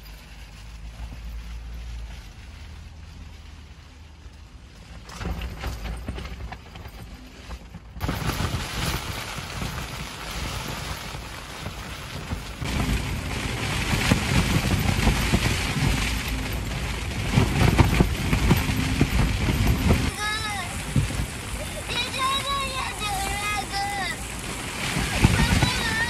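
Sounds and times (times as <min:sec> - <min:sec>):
rain on car roof: 0:00.0 - 0:26.0.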